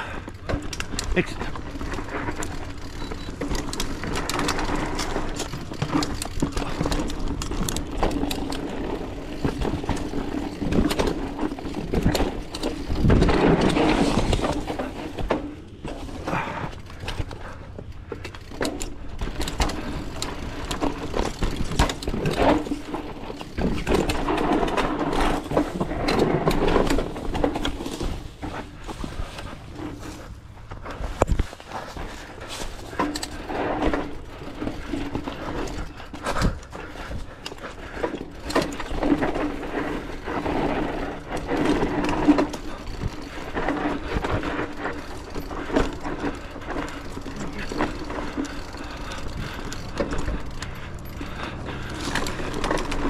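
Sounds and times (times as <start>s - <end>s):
bike chain and frame rattling: 0.0s - 53.0s
bike tyres rolling over dirt: 0.0s - 53.0s.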